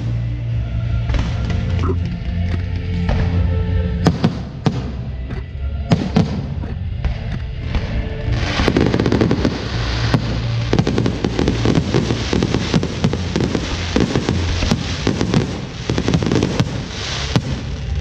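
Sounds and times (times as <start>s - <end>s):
fireworks bangs and crackles: 0.0s - 1.8s, 3.0s - 5.3s, 5.9s - 18.0s.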